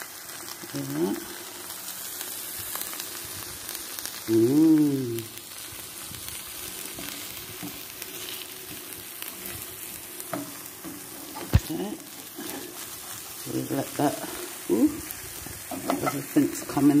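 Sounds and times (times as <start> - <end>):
taco sizzling in a skillet: 0.0 - 17.0.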